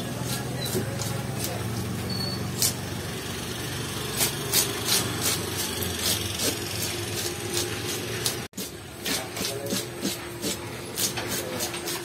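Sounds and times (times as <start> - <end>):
knife scraping fish scales: 0.0 - 1.9, 4.1 - 12.0.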